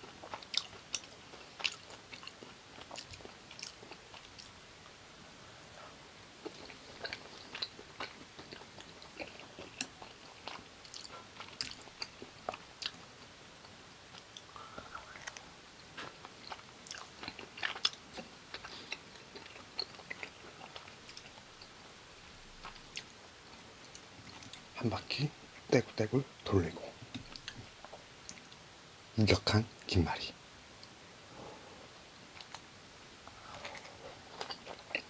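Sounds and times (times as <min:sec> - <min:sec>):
close chewing and crunching: 0:00.0 - 0:04.6, 0:06.4 - 0:28.6, 0:32.3 - 0:35.0.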